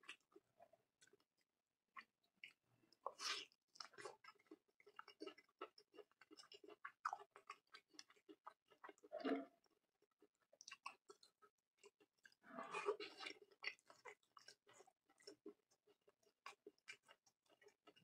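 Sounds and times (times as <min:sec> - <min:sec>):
person chewing and lip-smacking: 0:02.0 - 0:09.4, 0:10.1 - 0:18.0.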